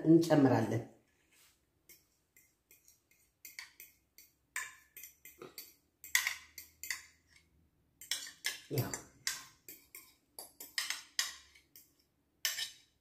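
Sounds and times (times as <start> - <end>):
scrapes and clinks on ceramic bowl: 1.9 - 13.0.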